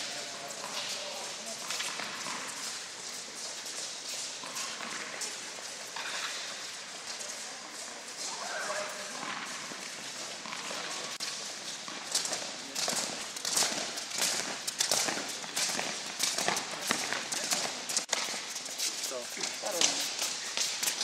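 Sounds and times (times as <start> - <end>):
tennis balls hit and bouncing: 0.0 - 18.8, 19.4 - 21.0.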